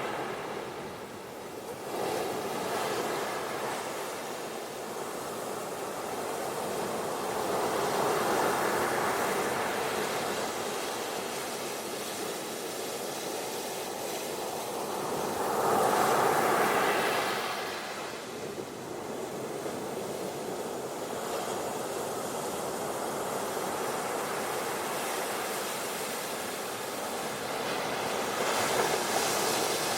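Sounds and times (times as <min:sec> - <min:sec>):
ocean waves on beach: 0:00.0 - 0:29.9.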